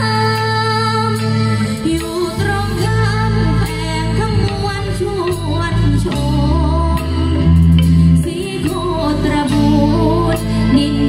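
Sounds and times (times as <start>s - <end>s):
live band music: 0.0s - 11.0s
person singing: 0.0s - 11.0s.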